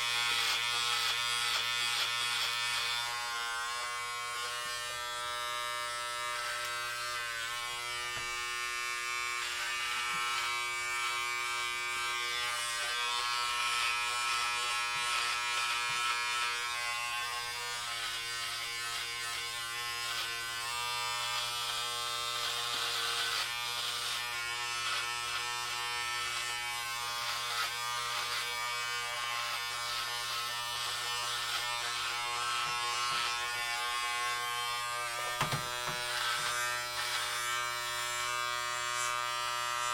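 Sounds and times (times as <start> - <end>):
clippers cutting hair: 0.0 - 39.9
electric hair clippers buzzing: 0.0 - 39.9.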